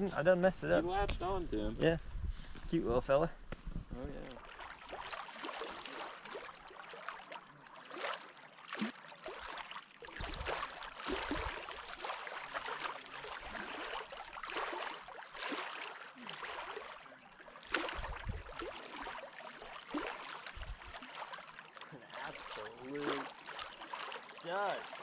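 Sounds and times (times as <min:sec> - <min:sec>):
water splashing and lapping: 0:03.5 - 0:25.0.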